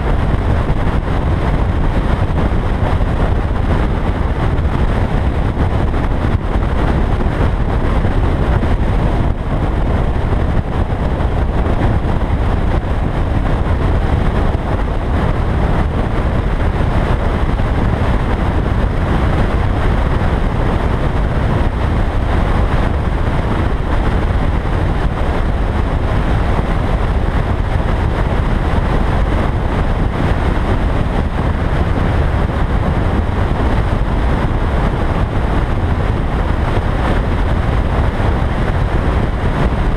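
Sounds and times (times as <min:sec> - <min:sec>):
car cruising road noise: 0:00.0 - 0:39.9.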